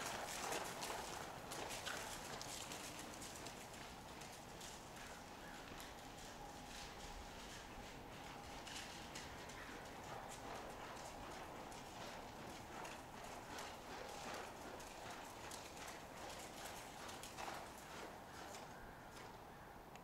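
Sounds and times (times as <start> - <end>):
horse hoofbeats on arena footing: 0.0 - 19.5.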